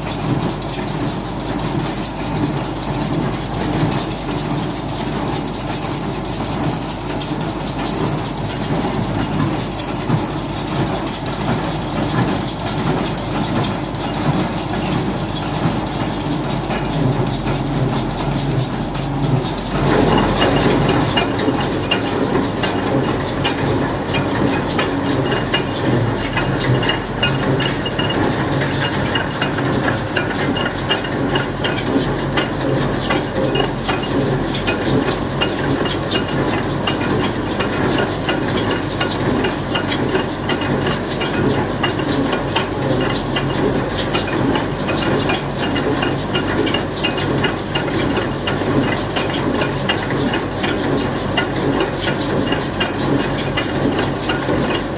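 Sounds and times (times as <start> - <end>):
baler rattling and clattering: 0.0 - 54.9
tractor engine running: 0.0 - 54.9.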